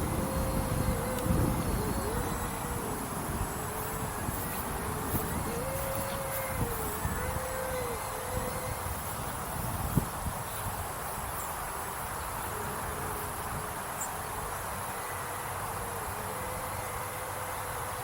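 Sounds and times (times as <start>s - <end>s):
electric ducted fan whining: 0.0s - 18.0s
wind rumbling on microphone: 0.0s - 18.0s.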